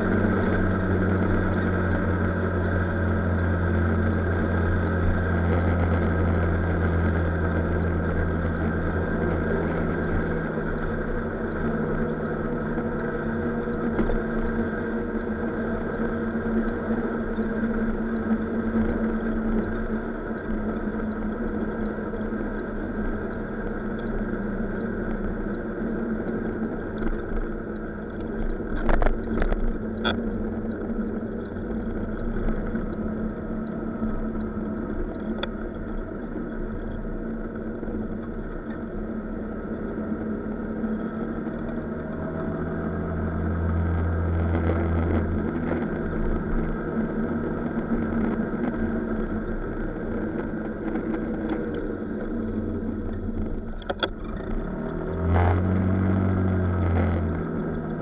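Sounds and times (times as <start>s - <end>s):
scooter engine running: 0.0s - 58.0s
wind and road noise: 0.0s - 58.0s.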